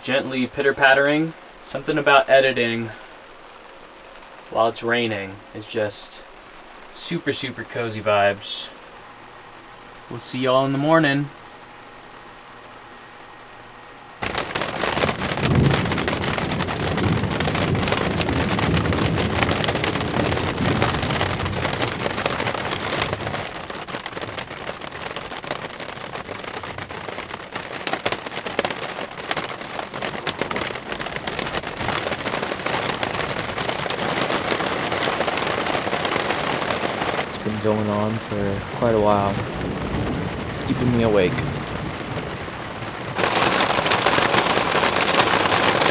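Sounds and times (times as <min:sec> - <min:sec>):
low thunder rumbling: 0:00.0 - 0:11.6, 0:14.2 - 0:45.9
heavy rain on a roof: 0:00.0 - 0:45.9.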